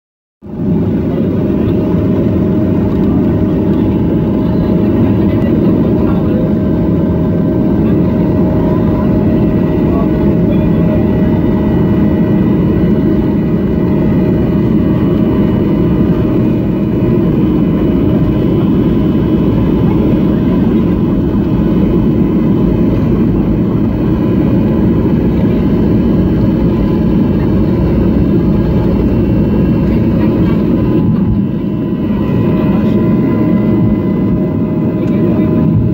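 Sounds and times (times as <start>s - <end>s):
jet engines droning: 0.4s - 35.9s.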